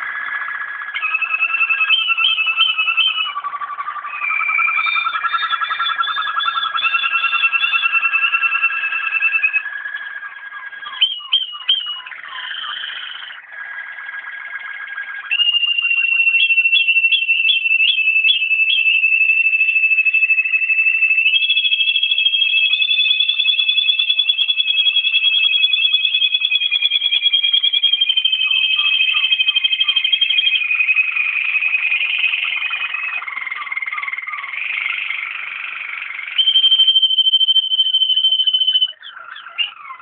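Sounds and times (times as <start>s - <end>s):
canaries singing: 0.0s - 40.0s.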